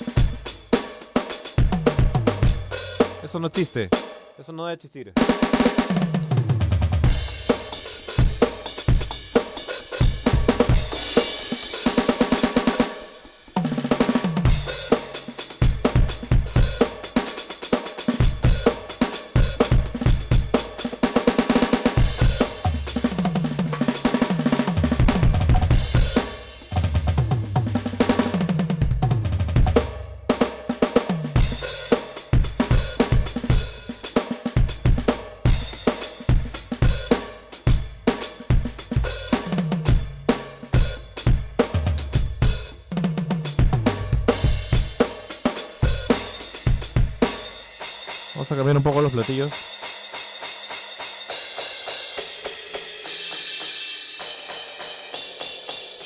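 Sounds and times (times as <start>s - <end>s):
electronic drum kit groove: 0.0s - 56.0s.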